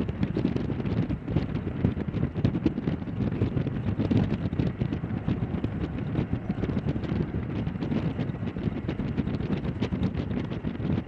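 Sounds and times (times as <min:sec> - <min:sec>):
aircraft engines and rotors running: 0:00.0 - 0:11.0
wind buffeting microphone: 0:00.0 - 0:11.0.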